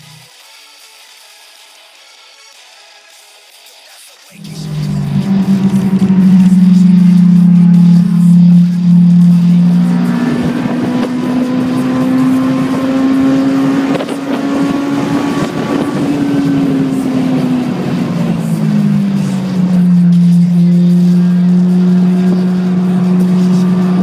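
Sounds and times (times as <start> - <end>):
car engine accelerating: 4.4 - 24.0
low droning tones: 4.4 - 24.0.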